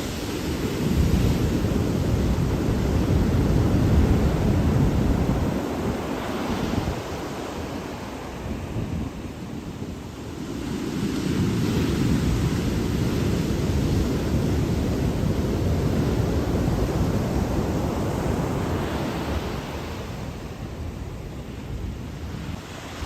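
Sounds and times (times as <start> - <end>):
ocean surf rushing: 0.0 - 23.0
wind noise on microphone: 0.0 - 23.0.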